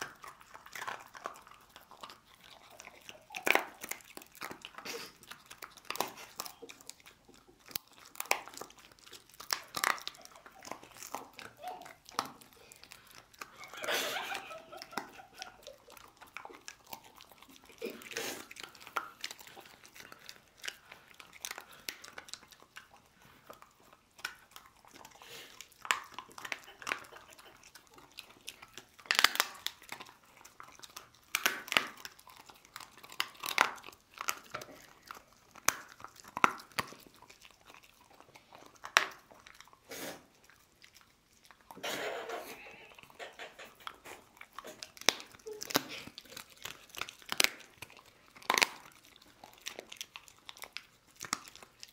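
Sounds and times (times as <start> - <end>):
dog crunching bone: 0.0 - 51.9
dog gnawing: 0.0 - 51.9.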